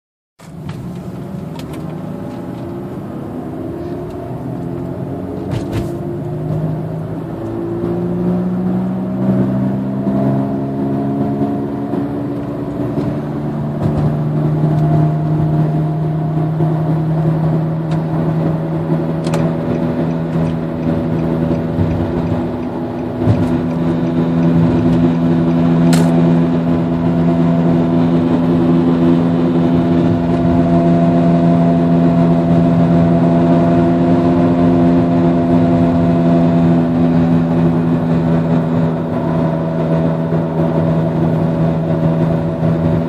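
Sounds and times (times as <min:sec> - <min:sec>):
car engine droning: 0:00.4 - 0:43.0.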